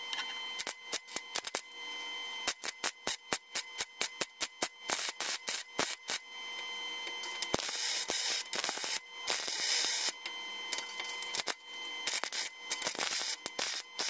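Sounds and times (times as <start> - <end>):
welder arc crackling: 0.0 - 1.8, 2.4 - 6.3, 7.4 - 14.0.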